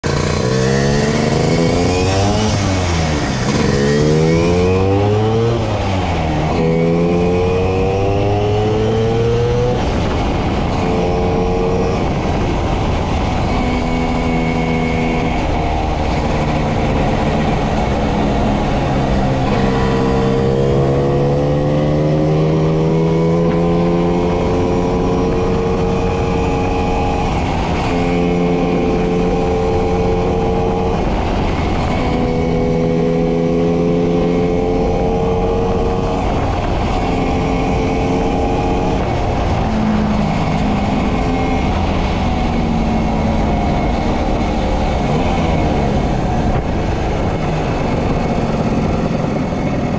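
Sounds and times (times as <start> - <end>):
scooter engine accelerating: 0.0 - 49.9
wind on microphone: 0.0 - 49.9.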